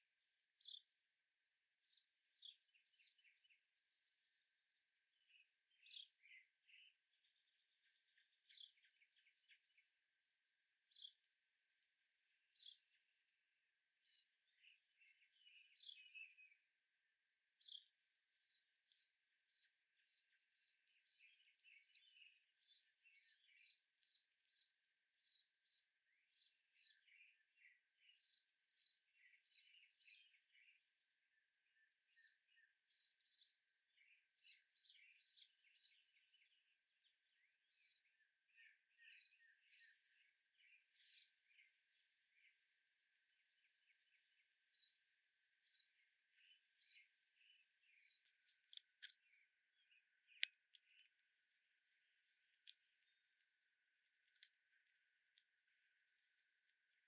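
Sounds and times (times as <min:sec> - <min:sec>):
sharp songbird chirps: 0:00.6 - 0:00.9, 0:01.8 - 0:10.0, 0:10.8 - 0:13.3, 0:14.0 - 0:16.8, 0:17.6 - 0:57.0
soft bird twittering: 0:01.8 - 0:57.0.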